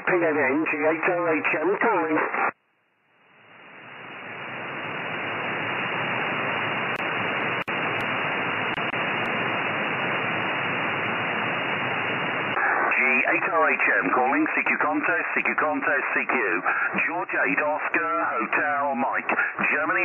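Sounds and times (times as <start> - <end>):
radio receiver hiss: 3.2 - 20.0.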